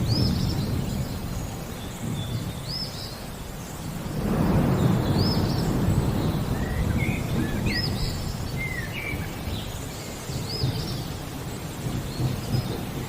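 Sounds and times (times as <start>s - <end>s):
bird chirping: 0.0s - 13.0s
rolling thunder rumble: 0.0s - 13.0s.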